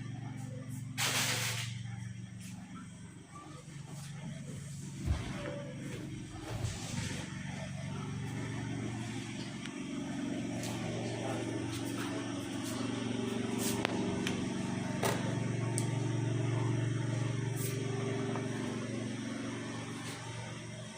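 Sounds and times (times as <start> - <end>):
motor humming: 1.7 - 20.9.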